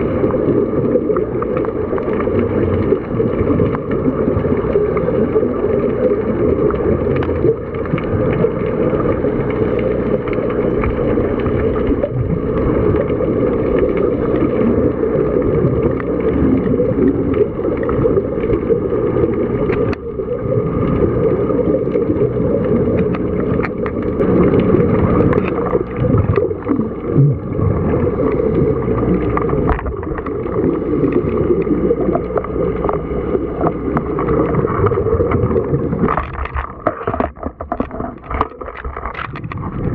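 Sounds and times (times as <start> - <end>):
underwater rumble and hiss: 0.0 - 39.9.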